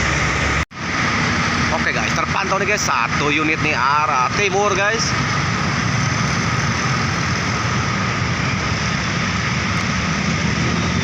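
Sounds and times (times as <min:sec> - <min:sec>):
heavy traffic rumble: 0:00.0 - 0:11.0.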